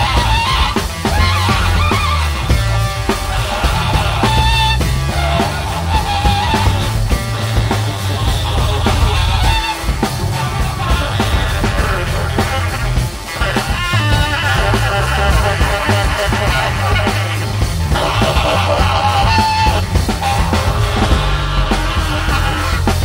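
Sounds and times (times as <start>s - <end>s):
baritone saxophone melody: 0.0s - 23.0s
drum kit: 0.0s - 23.0s
electric guitar: 0.0s - 23.0s
heavy bass: 0.0s - 23.0s.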